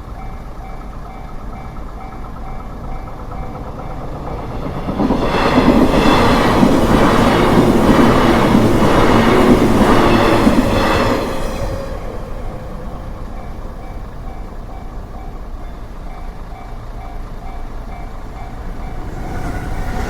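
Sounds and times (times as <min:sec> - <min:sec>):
train wheels clattering over rails: 0:00.0 - 0:20.0.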